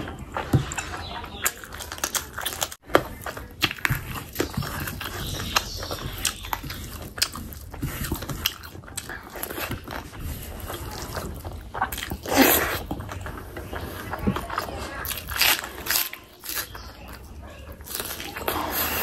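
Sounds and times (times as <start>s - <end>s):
wet chewing and lip-smacking: 0.0s - 19.0s.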